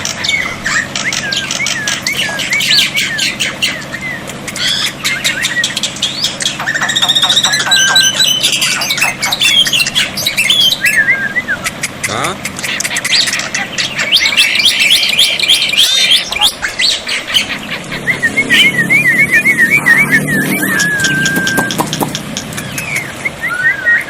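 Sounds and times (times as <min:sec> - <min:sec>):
starling singing: 0:00.0 - 0:24.0.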